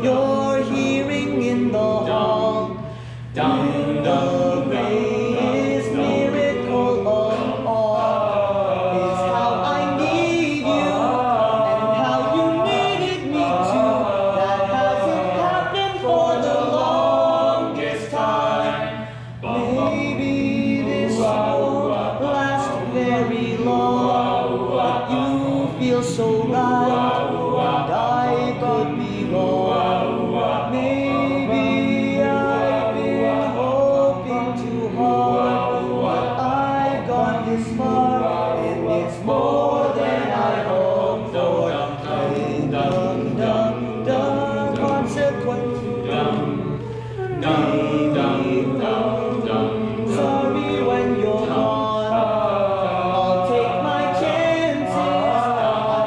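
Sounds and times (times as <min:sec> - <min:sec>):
men singing barbershop harmony: 0:00.0 - 0:56.0.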